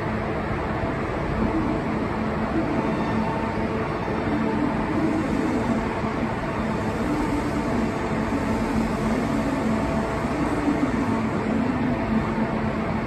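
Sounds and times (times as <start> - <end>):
mechanical rumble: 0.0 - 13.0.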